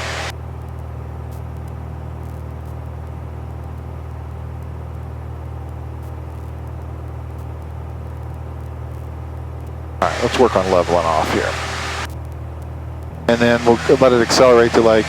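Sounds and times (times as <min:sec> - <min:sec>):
small plane engine cabin drone: 0:00.0 - 0:15.0.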